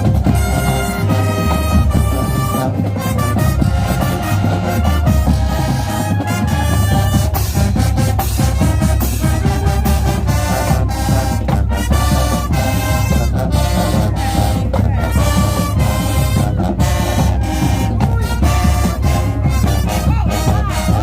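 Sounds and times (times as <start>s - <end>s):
brass phrases: 0.0s - 21.0s
heavy drums: 0.0s - 21.0s.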